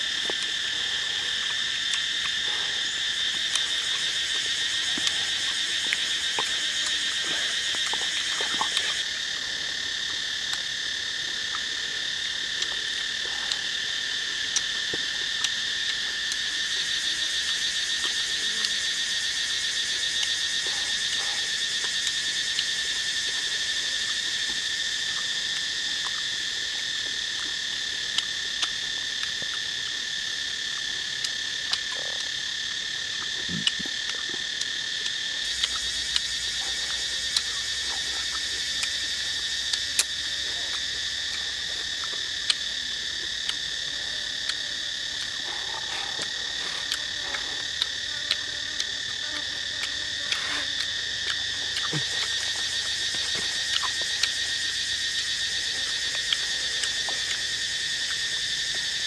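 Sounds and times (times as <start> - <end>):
crunchy food eating clicks: 0.0 - 59.0
high-pitched insect chorus: 0.0 - 59.0.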